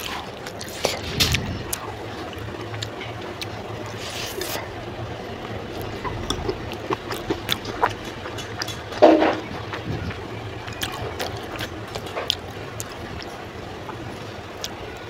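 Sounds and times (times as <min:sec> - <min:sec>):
chewing noodles: 0:00.0 - 0:15.0
low steady hum: 0:00.0 - 0:15.0.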